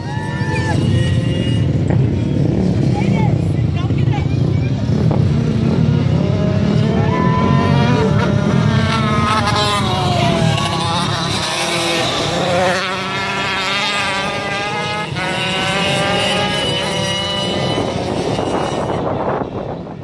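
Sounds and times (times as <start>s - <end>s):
racing motorcycle engines: 0.0s - 20.0s.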